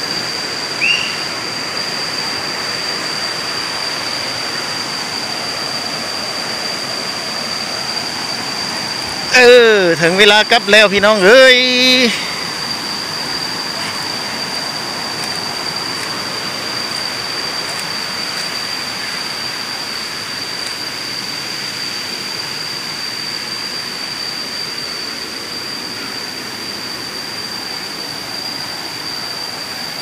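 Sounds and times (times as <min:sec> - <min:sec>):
high-pitched drone: 0:00.0 - 0:30.0.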